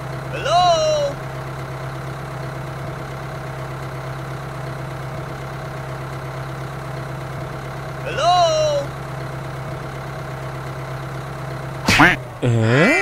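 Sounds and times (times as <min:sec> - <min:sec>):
toy tractor engine idling: 0:00.0 - 0:12.5.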